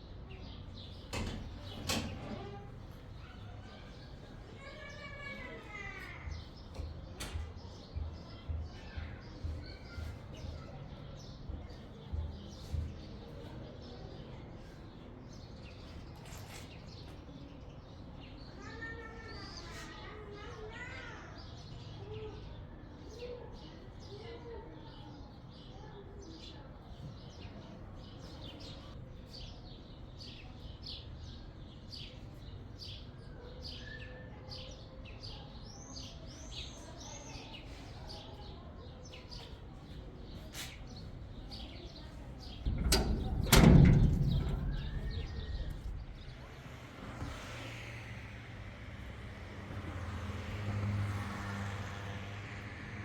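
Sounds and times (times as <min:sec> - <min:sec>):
small birds chirping: 0:00.0 - 0:51.2.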